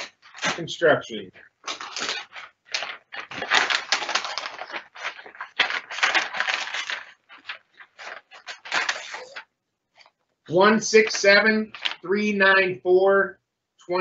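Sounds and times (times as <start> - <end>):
paper rustling and crinkling: 0.0 - 10.2, 11.0 - 12.1.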